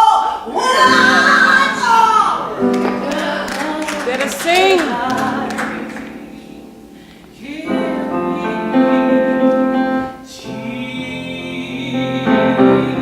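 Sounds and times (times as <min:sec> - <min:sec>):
voices singing: 0:00.0 - 0:13.0
keyboard chords: 0:00.6 - 0:13.0.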